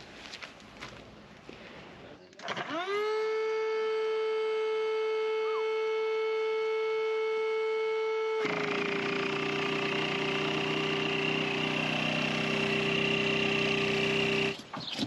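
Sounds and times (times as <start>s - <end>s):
electric air pump whining: 2.5s - 14.9s.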